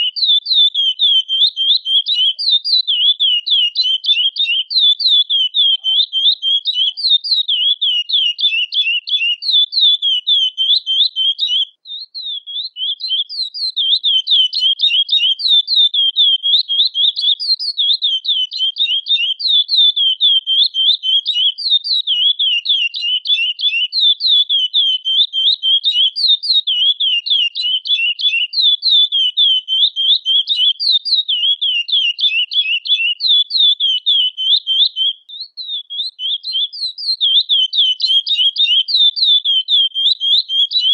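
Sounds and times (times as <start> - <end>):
finch chirping: 0.0 - 40.9.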